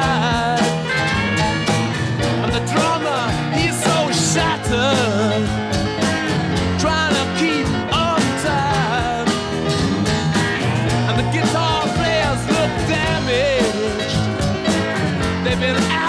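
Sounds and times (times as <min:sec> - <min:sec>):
rock song with slide guitar: 0:00.0 - 0:16.0.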